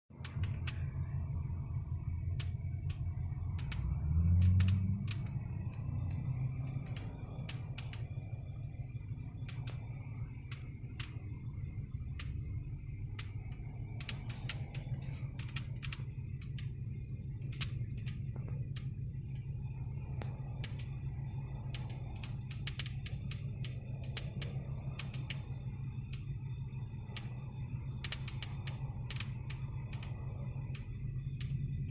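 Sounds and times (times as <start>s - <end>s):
low vehicle rumble: 0.1s - 31.9s
sharp popping clicks: 0.1s - 31.9s.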